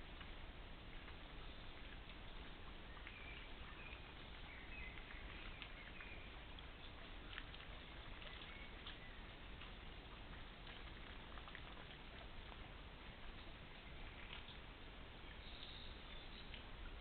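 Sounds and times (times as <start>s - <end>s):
faint ticks: 0.0s - 17.0s
microphone hiss: 0.0s - 17.0s.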